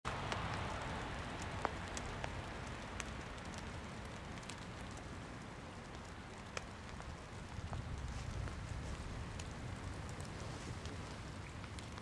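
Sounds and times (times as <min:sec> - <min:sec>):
faint ticks and clicks: 0:00.1 - 0:12.0.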